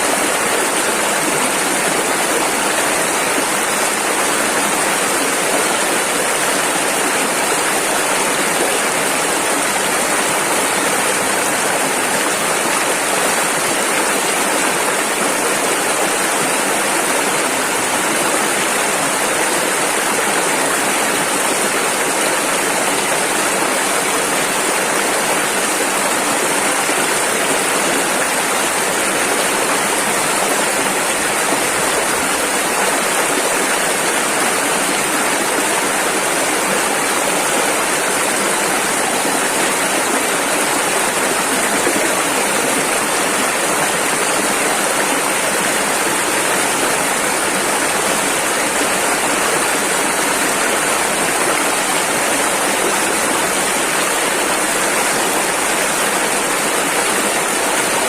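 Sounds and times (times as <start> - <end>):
river water rushing over rapids: 0.0 - 58.0.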